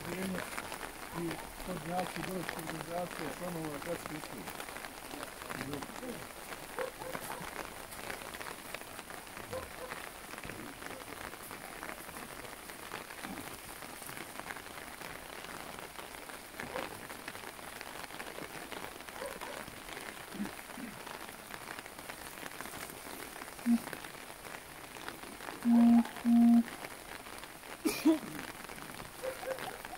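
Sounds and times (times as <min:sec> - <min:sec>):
rain pattering on umbrellas: 0:00.0 - 0:29.9.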